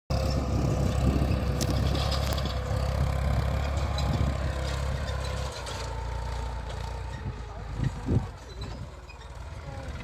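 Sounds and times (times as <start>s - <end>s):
tractor diesel engine running: 0.1s - 10.0s.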